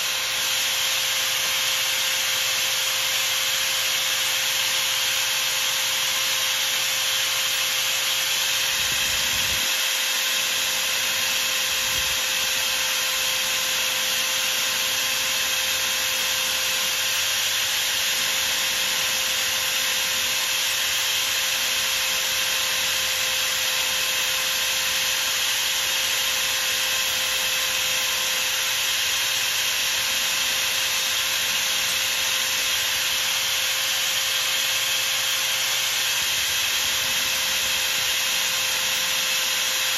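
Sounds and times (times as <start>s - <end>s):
metal lathe motor whine: 0.0s - 39.9s.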